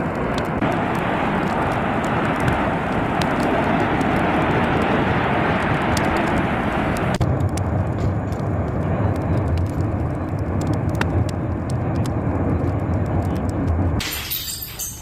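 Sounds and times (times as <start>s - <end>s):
faint crackles: 0.0s - 14.0s
volcanic eruption roaring: 0.0s - 14.4s.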